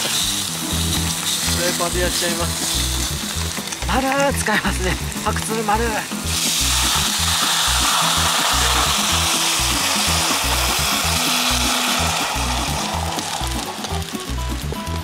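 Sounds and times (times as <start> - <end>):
liquid hissing in hot frying pan: 0.0 - 14.7.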